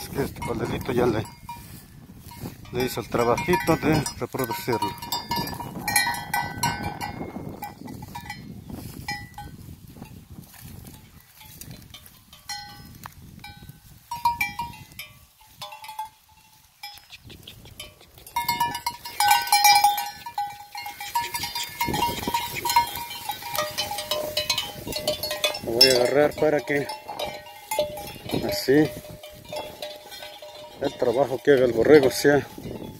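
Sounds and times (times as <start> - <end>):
sheep bell clanking: 0.0 - 32.9.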